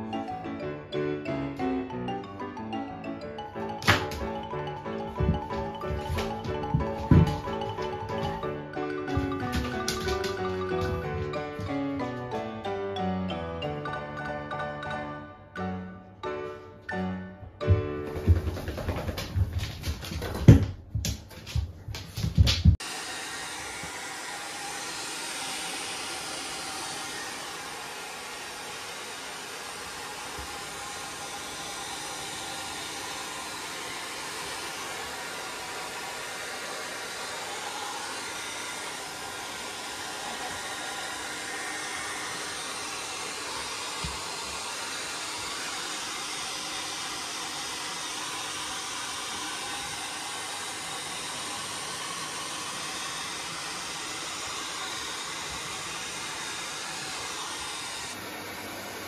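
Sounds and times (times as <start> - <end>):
pet dryers blowing: 3.4 - 12.8, 17.6 - 59.0.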